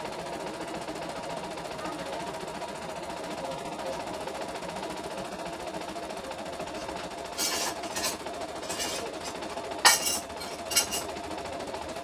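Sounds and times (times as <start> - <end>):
embroidery machine running: 0.0 - 12.0.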